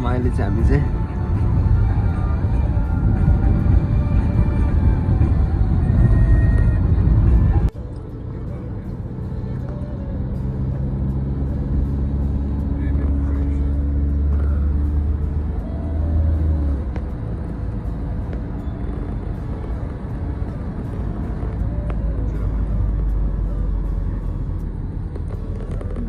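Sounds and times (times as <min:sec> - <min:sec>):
car engine drone: 0:00.0 - 0:26.0
road rumble: 0:00.0 - 0:26.0.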